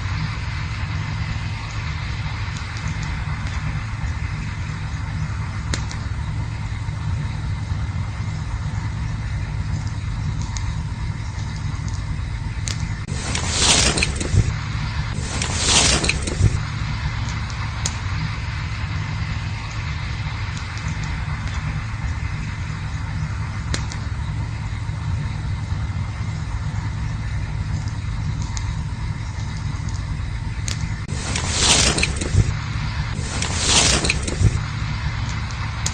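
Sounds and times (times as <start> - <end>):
campfire rumbling: 0.0 - 35.9
fire crackles: 0.0 - 35.9
rush of noise: 0.0 - 35.9.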